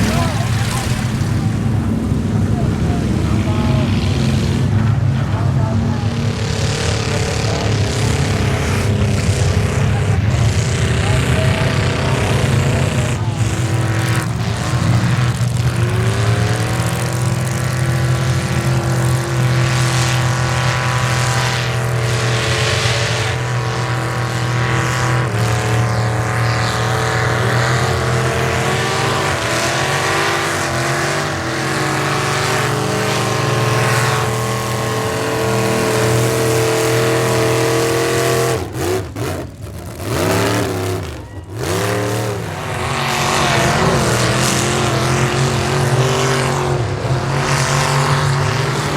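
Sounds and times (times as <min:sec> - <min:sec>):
truck engine revving high: 0:00.0 - 0:48.9.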